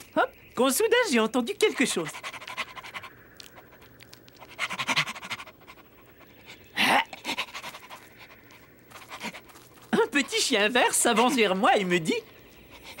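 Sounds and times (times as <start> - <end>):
puppy panting: 1.6 - 13.0.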